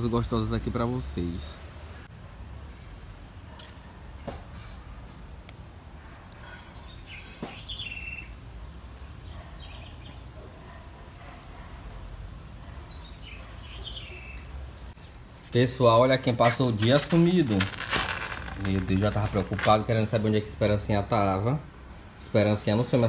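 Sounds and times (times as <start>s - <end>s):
small birds chirping: 0.0s - 2.6s, 4.9s - 23.0s.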